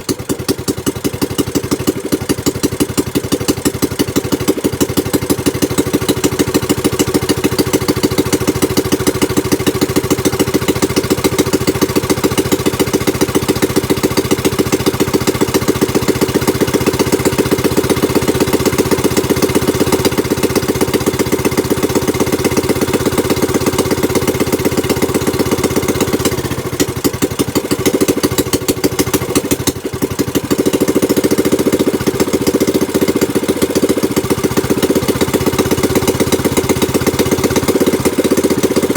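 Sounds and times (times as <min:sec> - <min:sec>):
small boat engine running: 0:00.0 - 0:38.9.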